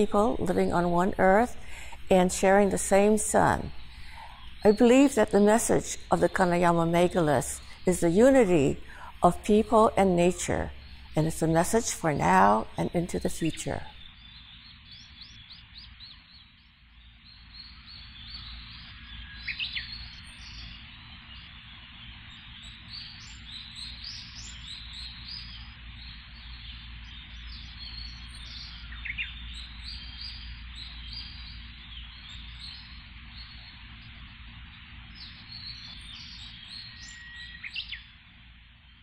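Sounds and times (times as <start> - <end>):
birds chirping: 0.0 - 39.0
loud sweeping bird calls: 0.0 - 39.0.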